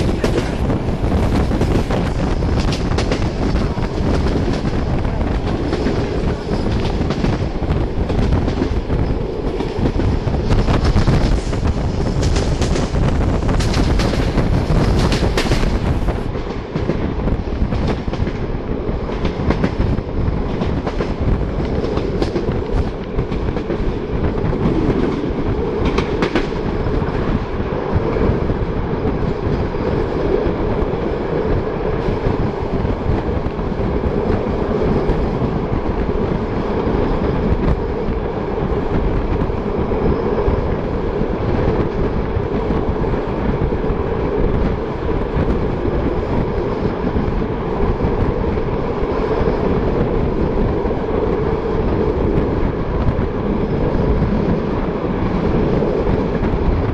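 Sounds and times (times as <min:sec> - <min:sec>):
train wheels rumbling on track: 0:00.0 - 0:56.9.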